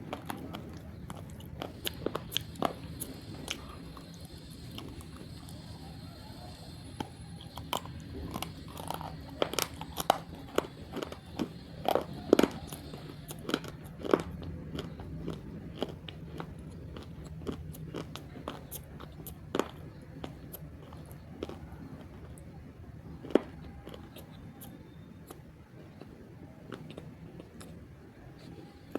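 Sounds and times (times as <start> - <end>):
crunchy chewing: 0.0 - 28.9.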